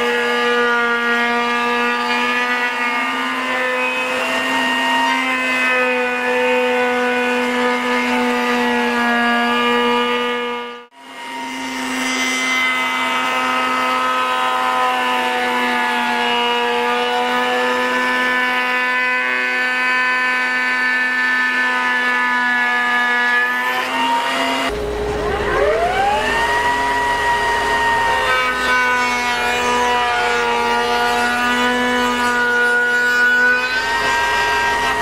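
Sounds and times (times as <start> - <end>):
power tool motor whining: 0.0 - 35.0.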